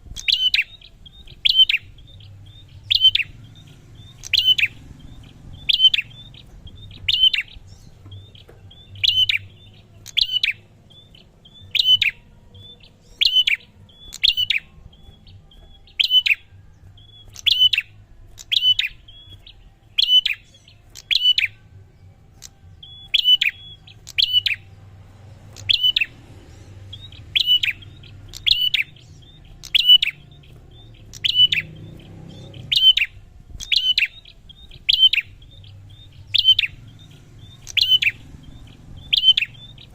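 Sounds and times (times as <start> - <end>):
bird calling: 0.0 - 21.6, 22.4 - 39.9.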